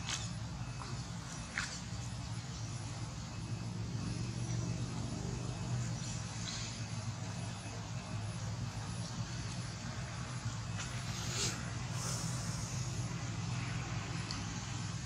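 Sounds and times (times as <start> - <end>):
distant motor droning: 0.0 - 15.0.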